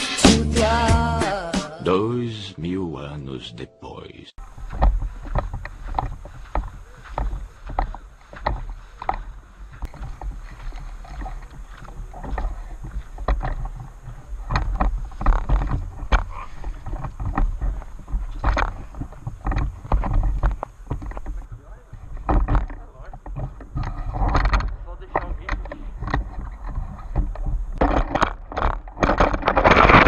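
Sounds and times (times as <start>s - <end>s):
rustling and crackling brush: 4.4s - 30.0s
wind rumble on microphone: 4.4s - 30.0s.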